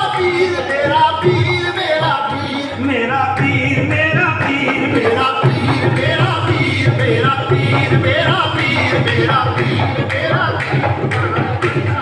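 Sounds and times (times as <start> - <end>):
harmonium: 0.0 - 12.0
men singing together: 0.0 - 12.0.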